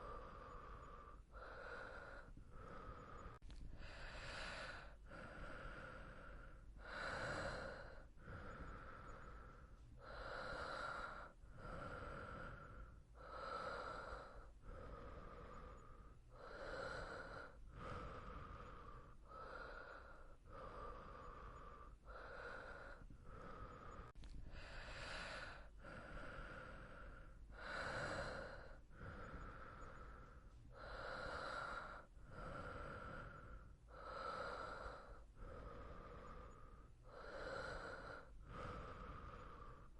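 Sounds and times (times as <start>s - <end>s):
person breathing softly in sleep: 0.0s - 39.9s.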